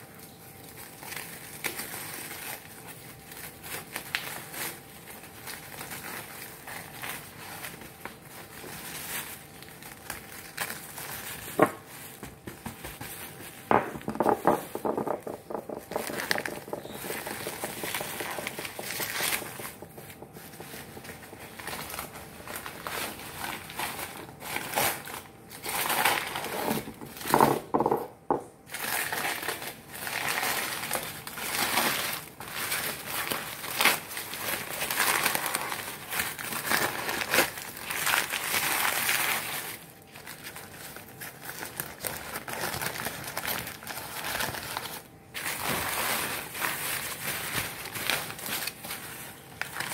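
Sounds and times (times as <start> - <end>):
paper crinkling: 0.0 - 49.9
clay crust cracking and crumbling: 0.2 - 49.9.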